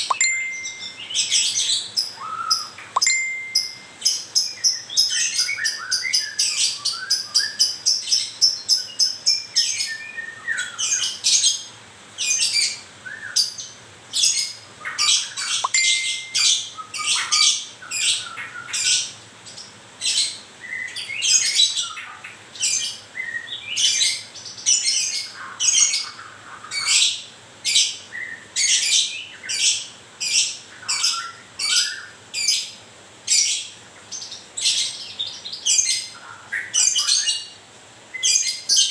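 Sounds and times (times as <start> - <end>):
bird chirping and singing: 0.0 - 37.6.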